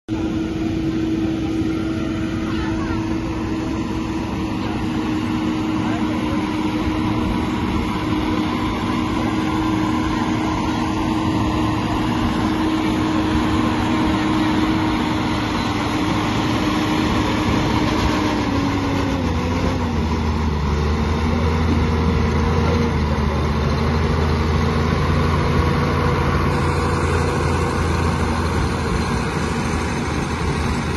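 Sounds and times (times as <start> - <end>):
tractor diesel engine under load: 0.1 - 30.9.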